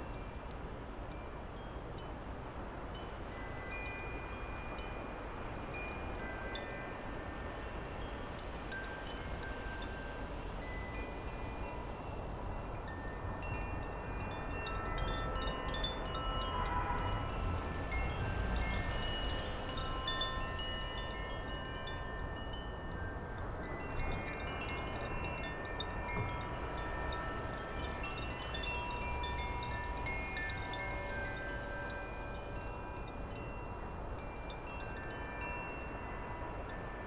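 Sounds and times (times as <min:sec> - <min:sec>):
wind chimes ringing: 0:00.0 - 0:00.5, 0:01.1 - 0:37.0.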